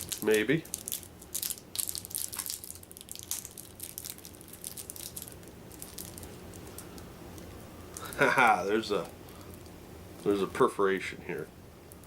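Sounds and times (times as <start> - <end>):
plastic shrink wrap crinkling: 0.0 - 10.4.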